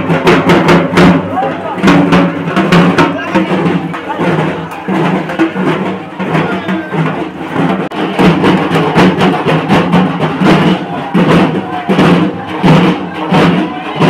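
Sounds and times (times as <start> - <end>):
barrel drums beaten with sticks: 0.0 - 14.0.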